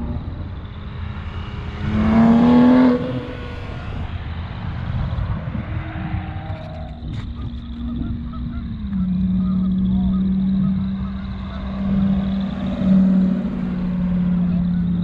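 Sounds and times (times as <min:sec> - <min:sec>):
car engine revving: 0:00.0 - 0:15.0
low rumble of running engines: 0:00.0 - 0:15.0.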